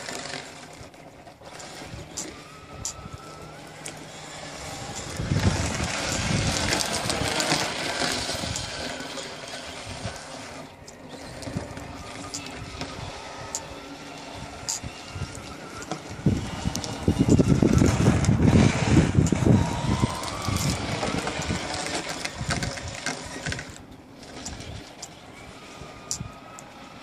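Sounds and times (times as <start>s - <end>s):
toy car motor and spinning tyres: 0.0s - 27.0s
wind on microphone: 1.5s - 9.0s, 11.2s - 26.8s.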